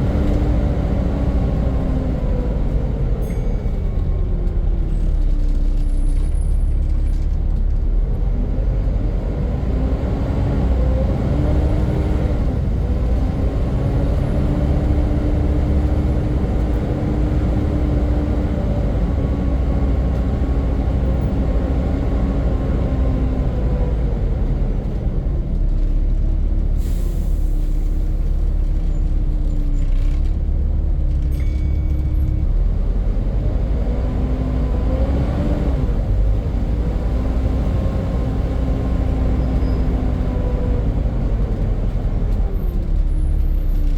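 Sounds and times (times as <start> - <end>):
bus diesel engine whine: 0.0 - 43.9.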